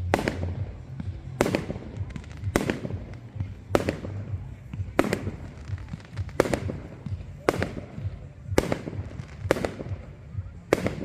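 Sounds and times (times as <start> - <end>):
fireworks bangs: 0.0 - 11.0
fireworks crackle: 0.0 - 11.0.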